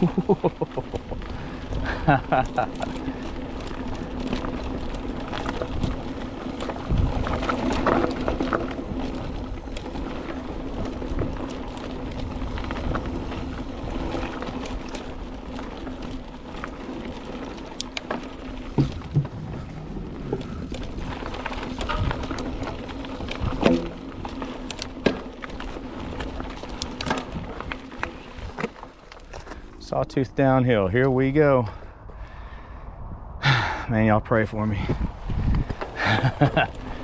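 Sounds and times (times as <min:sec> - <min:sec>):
bike clicks and knocks: 0:00.0 - 0:29.8, 0:35.5 - 0:37.0
mountain bike on dirt trail: 0:00.0 - 0:37.0.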